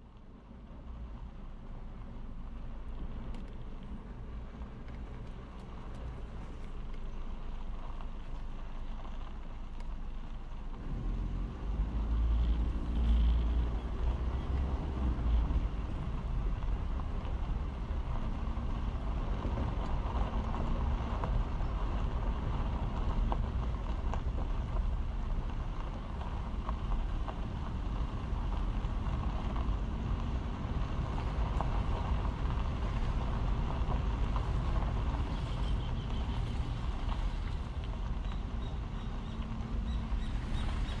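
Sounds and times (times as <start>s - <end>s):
car driving rumble: 0.0s - 41.0s.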